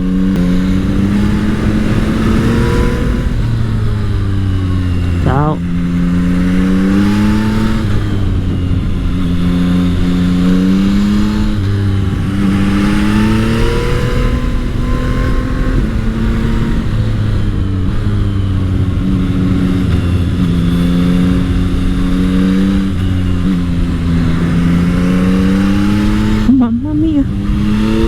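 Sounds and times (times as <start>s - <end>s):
motorcycle engine under way: 0.0s - 28.0s.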